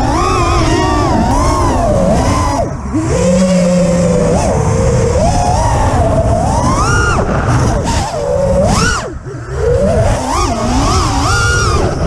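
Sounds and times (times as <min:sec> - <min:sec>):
drone motors whining: 0:00.0 - 0:12.0
wind rumbling on microphone: 0:00.0 - 0:12.0.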